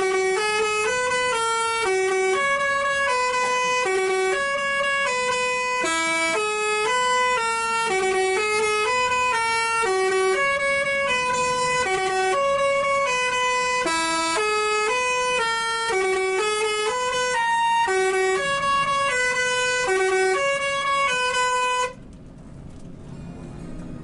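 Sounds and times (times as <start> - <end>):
bus horn playing a tune: 0.0 - 22.0.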